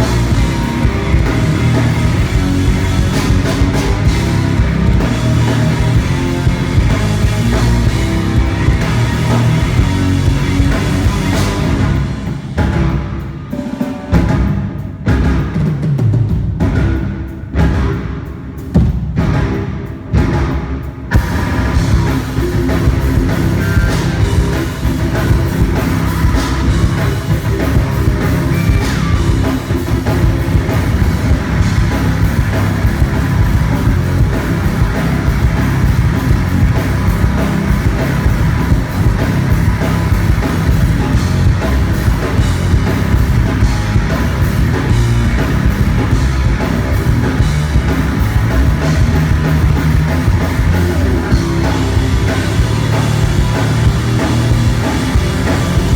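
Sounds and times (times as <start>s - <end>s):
loud rock music: 0.0s - 55.9s.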